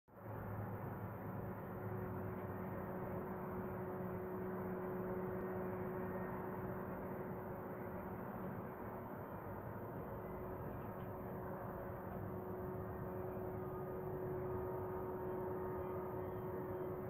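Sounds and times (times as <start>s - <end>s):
constant low hum: 0.1s - 17.0s.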